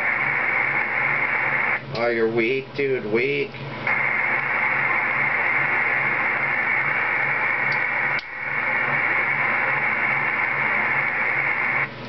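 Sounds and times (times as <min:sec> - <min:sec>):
radio click: 0:00.0 - 0:02.1, 0:03.9 - 0:11.9
radio static hiss: 0:00.0 - 0:12.0.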